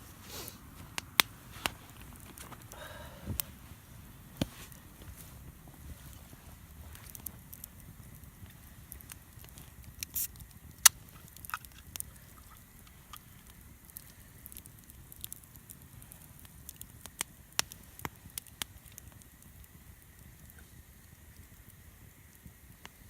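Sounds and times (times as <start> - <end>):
campfire crackling and popping: 0.4 - 23.0.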